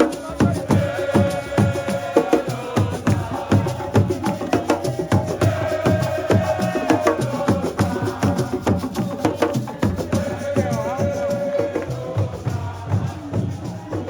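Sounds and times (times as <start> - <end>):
rapid drum strikes: 0.0 - 14.0.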